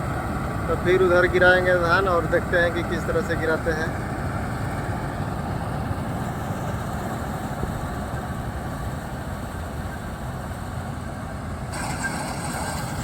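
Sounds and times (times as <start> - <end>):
combine harvester engine: 0.0 - 13.0.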